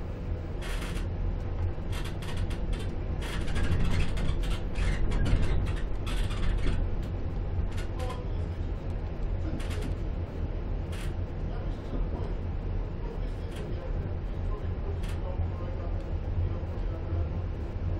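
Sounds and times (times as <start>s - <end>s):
train running gear rumble: 0.0s - 17.9s.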